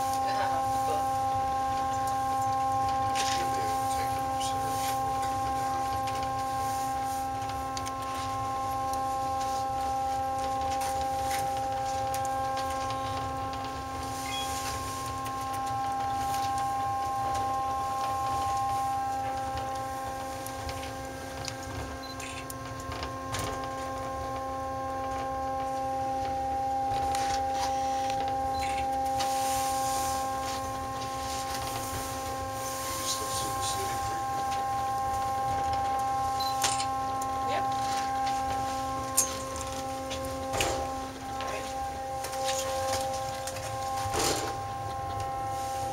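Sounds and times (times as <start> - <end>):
tram electric whine: 0.0 - 45.9.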